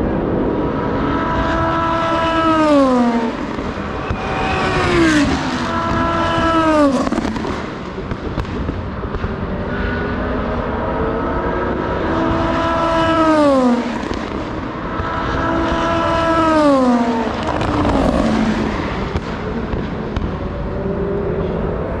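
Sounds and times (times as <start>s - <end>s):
race cars passing at speed: 0.0s - 22.0s.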